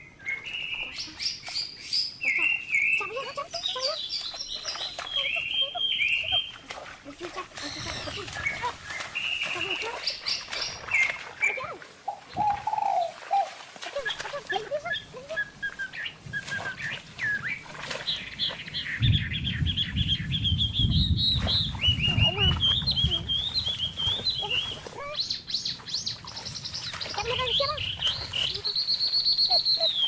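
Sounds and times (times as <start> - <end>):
bird chirping: 0.0 - 6.7, 7.4 - 13.4, 14.0 - 30.0.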